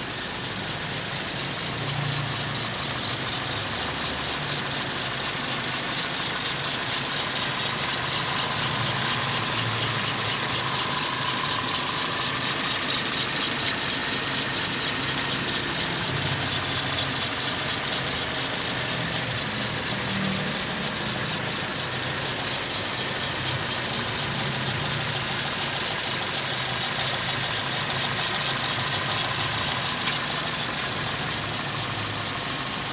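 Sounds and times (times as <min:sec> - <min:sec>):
car engine idling: 0:00.0 - 0:32.9
fast even ticking: 0:00.6 - 0:32.9.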